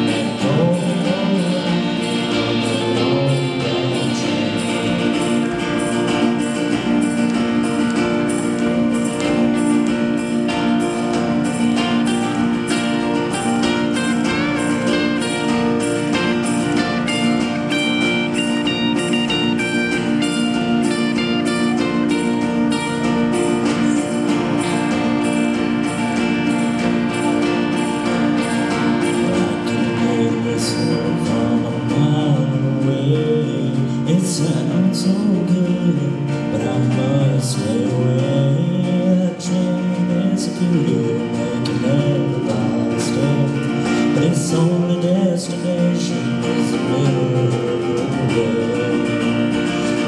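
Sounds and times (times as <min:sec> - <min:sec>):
live country band playing: 0:00.0 - 0:50.0
man singing: 0:00.0 - 0:50.0.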